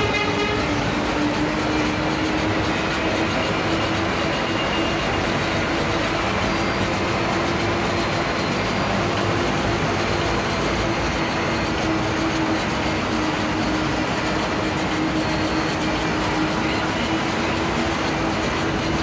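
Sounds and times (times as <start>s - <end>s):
droning hum: 0.0s - 19.0s.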